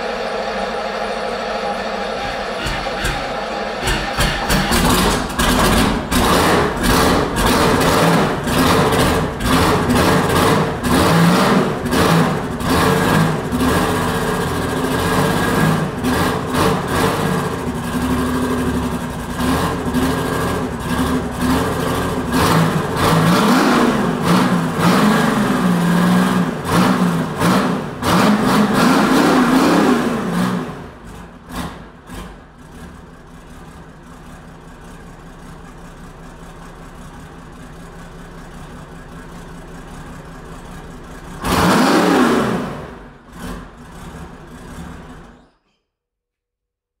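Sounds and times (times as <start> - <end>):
diesel engine revving and idling: 0.0 - 45.4.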